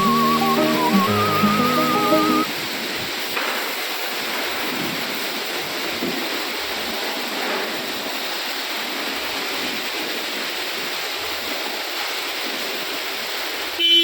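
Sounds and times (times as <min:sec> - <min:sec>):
water spraying hiss: 0:02.5 - 0:13.7.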